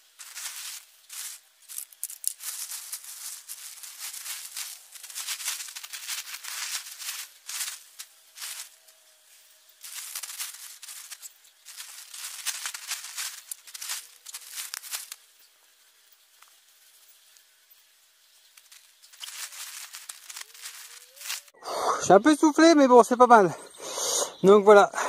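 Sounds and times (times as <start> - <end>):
plastic sheeting rustling: 0.0 - 17.4, 18.2 - 21.6.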